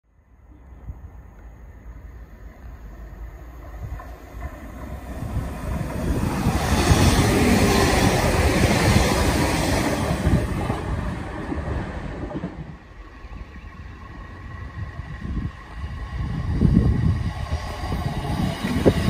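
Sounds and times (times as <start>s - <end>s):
train passing at speed: 0.1s - 19.0s.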